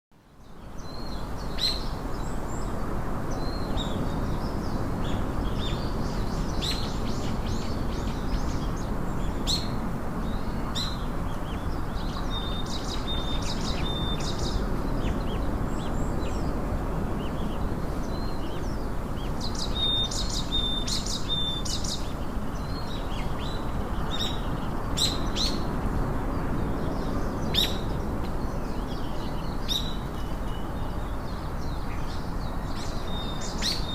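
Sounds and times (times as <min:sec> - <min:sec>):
songbirds chirping: 0:00.2 - 0:33.9.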